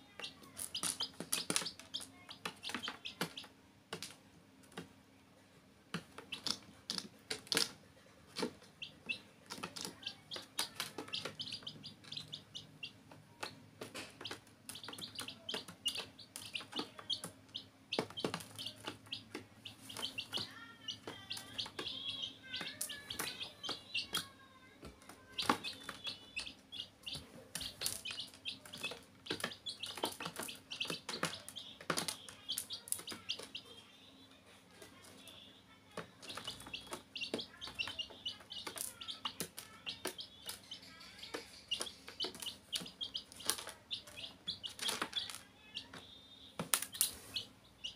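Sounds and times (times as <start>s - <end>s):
chicks peeping: 0.0s - 4.9s, 5.9s - 47.9s.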